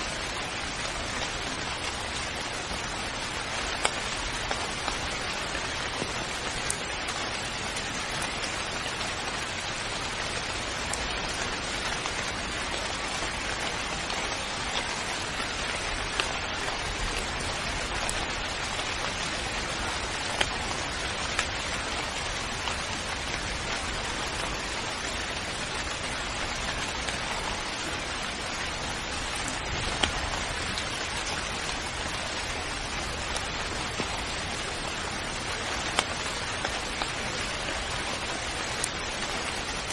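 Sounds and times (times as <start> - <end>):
raindrop ticks: 0.0 - 39.9
steady rain falling: 0.0 - 39.9.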